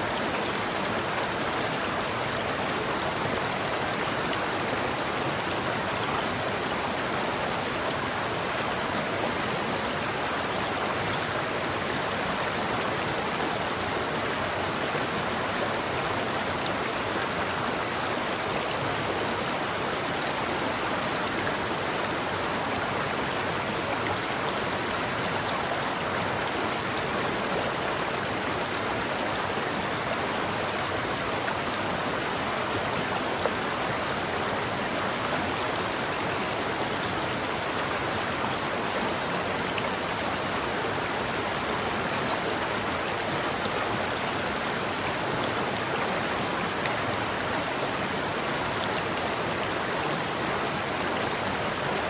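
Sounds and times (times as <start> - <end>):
river water rushing over rocks: 0.0 - 52.0.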